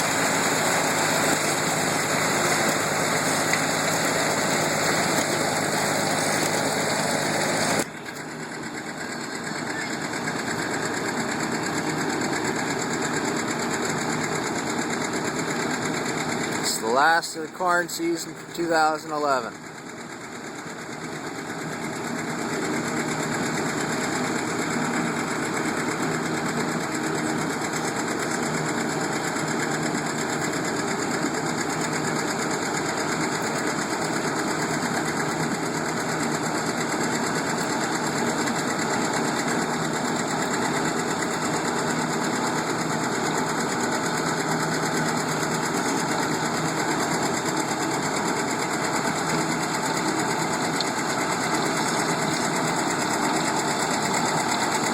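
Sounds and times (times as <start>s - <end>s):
farm machinery engine running: 0.0s - 54.9s
fast mechanical chatter: 0.0s - 54.9s.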